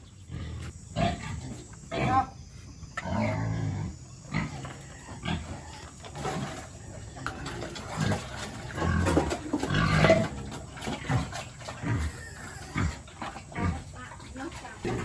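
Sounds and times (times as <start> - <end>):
pigs grunting: 0.0 - 15.0.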